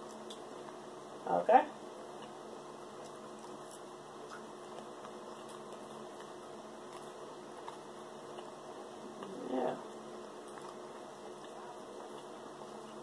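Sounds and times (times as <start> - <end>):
steady low hum: 0.0 - 13.0
chewing: 2.1 - 13.0.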